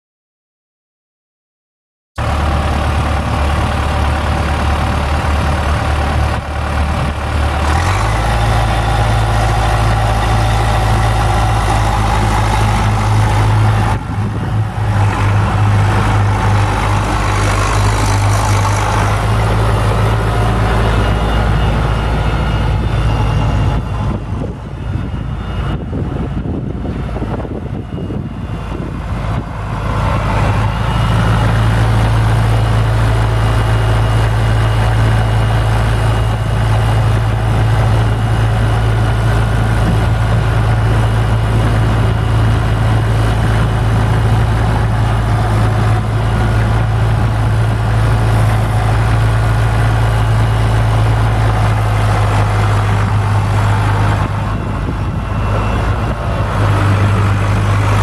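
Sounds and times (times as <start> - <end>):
tractor diesel engine running: 2.2 - 58.0.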